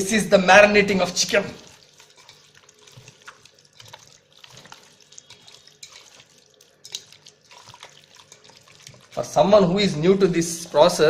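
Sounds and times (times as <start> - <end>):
wet squelching of mixed chicken: 1.0 - 11.0.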